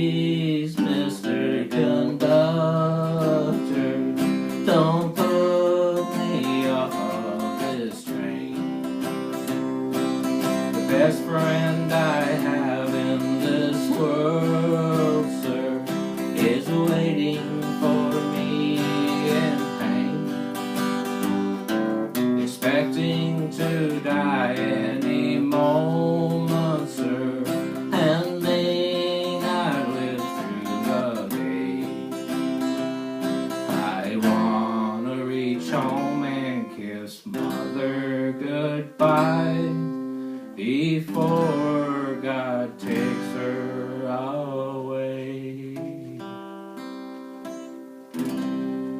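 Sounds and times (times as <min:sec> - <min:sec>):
person singing: 0:00.0 - 0:46.6
acoustic guitar strumming: 0:00.0 - 0:48.9.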